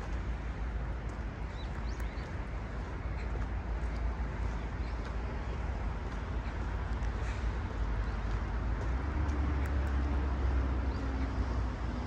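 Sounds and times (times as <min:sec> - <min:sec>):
low city rumble: 0:00.0 - 0:12.0.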